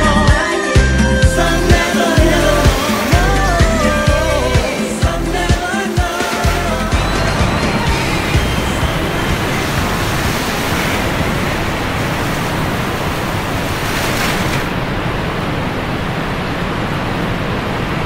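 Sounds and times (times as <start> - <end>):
sea surf washing: 1.2 - 18.0.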